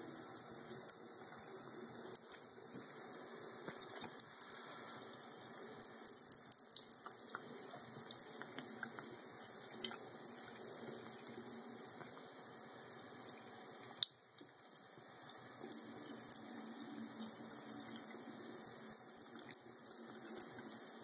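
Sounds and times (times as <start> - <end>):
water drips and splashes: 2.1 - 12.3, 13.3 - 21.0.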